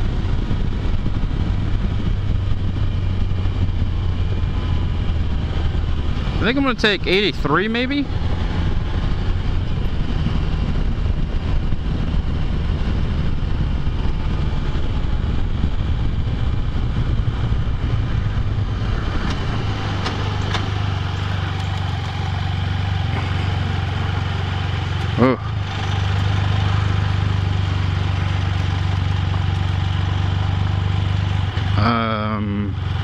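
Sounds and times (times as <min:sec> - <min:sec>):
motorcycle engine running: 0:00.0 - 0:33.0
wind and road noise: 0:00.0 - 0:33.0.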